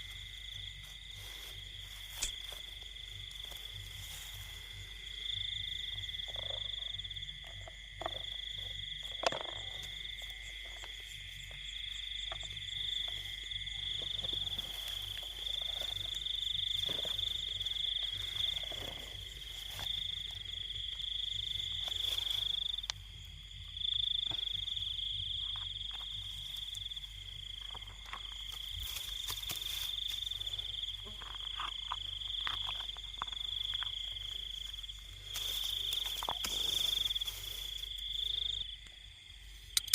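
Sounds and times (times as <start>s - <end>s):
frogs calling: 0.0s - 39.9s
high-pitched insect trill: 0.0s - 39.9s.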